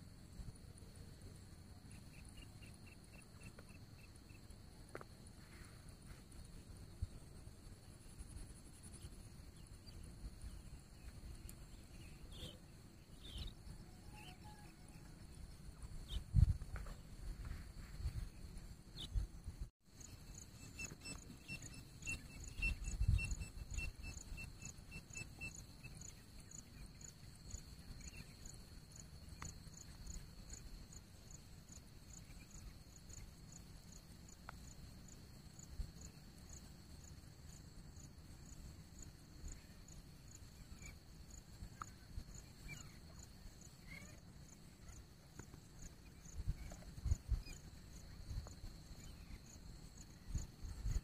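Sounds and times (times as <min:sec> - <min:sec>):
insects humming: 0:00.0 - 0:51.0.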